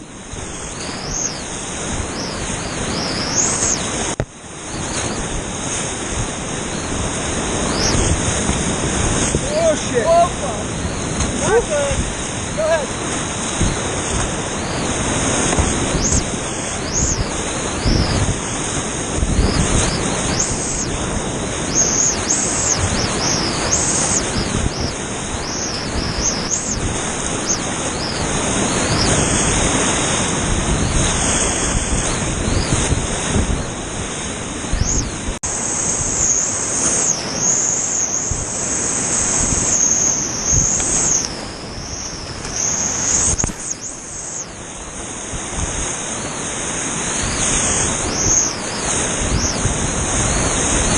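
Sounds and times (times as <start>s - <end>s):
rushing whitewater: 0.0s - 50.9s.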